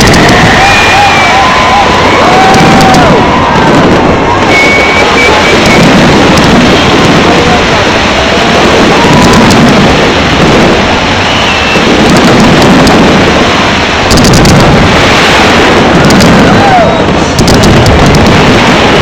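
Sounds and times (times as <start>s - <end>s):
fireworks bangs: 0.0s - 19.0s
fireworks whistles: 0.0s - 19.0s.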